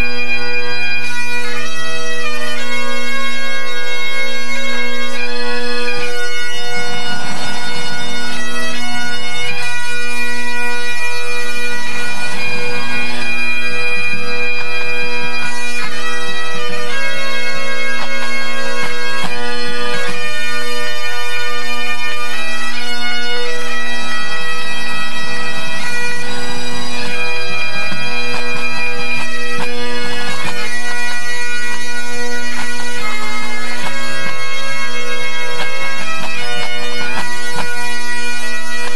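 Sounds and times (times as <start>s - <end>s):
bagpipes playing: 0.0s - 38.9s.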